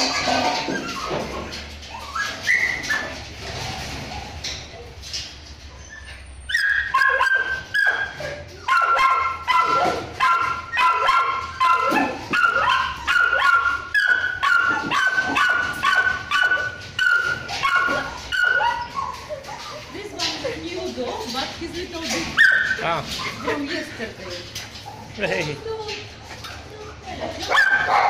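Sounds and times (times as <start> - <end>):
dog yipping: 0.0 - 3.2, 5.7 - 21.4, 22.0 - 25.2, 26.2 - 28.0.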